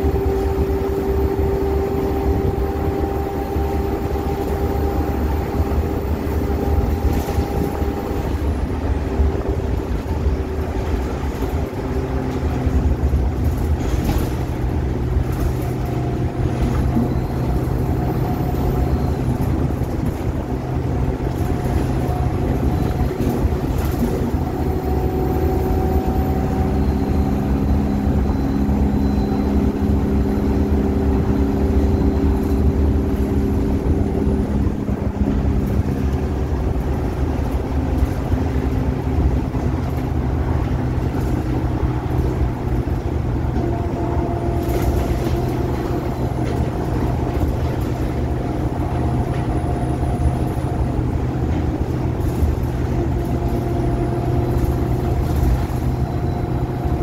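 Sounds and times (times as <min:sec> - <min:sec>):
bus diesel engine drone: 0:00.0 - 0:57.0
drivetrain whine: 0:00.0 - 0:57.0
road noise: 0:00.0 - 0:57.0.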